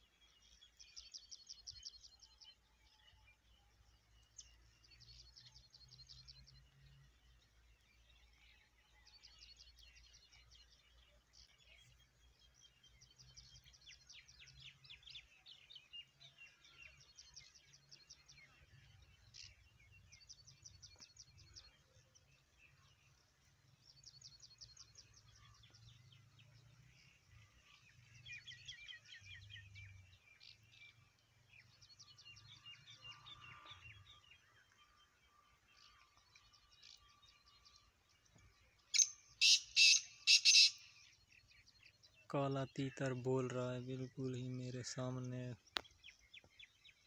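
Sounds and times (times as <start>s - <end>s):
small birds chirping and trilling: 0.0s - 47.0s.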